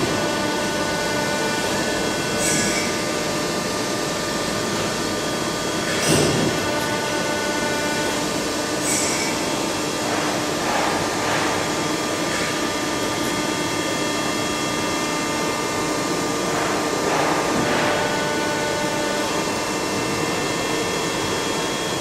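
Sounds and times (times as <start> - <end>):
milling machine whine: 0.0 - 22.0.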